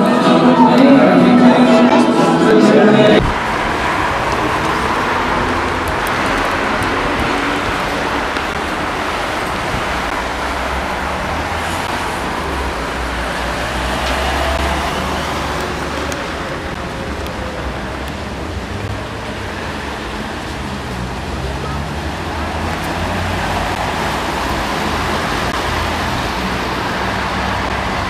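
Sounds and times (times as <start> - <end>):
road traffic passing: 0.0 - 28.0
vehicle rumble passing close: 2.9 - 28.0.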